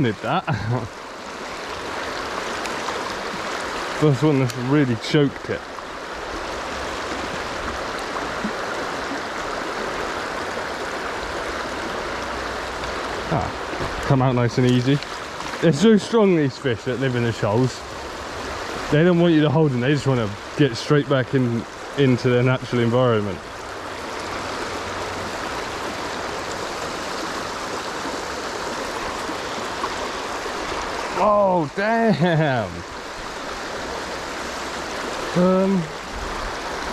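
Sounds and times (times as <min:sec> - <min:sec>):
river rushing over shoals: 0:00.0 - 0:36.9.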